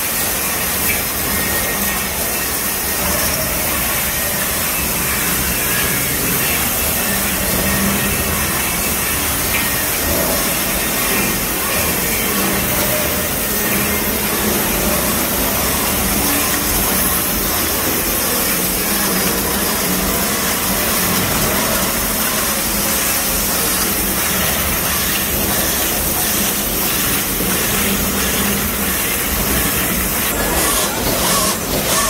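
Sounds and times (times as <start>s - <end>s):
industrial machinery hum and hiss: 0.0s - 32.0s.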